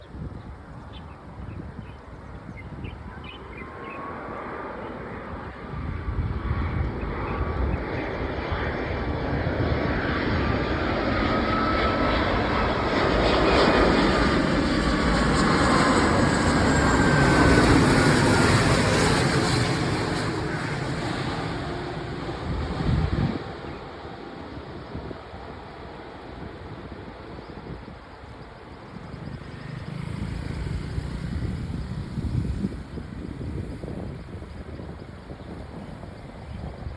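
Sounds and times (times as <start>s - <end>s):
jet aircraft flying past: 0.0s - 36.9s.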